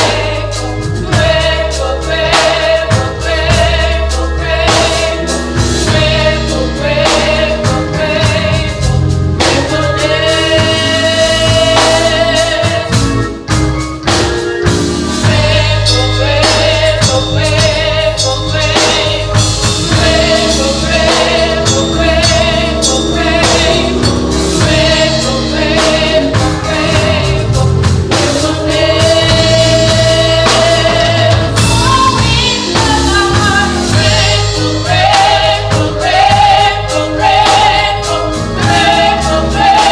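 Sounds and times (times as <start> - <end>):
drum hits: 0.0 - 18.0, 18.7 - 39.9
gospel choir singing: 0.0 - 39.9
low bass notes: 0.0 - 39.9.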